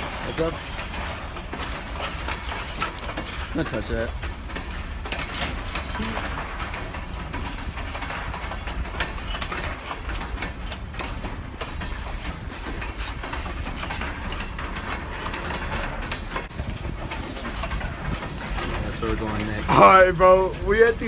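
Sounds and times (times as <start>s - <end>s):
train rumbling past: 0.0s - 21.0s
train wheel clicks: 0.0s - 21.0s.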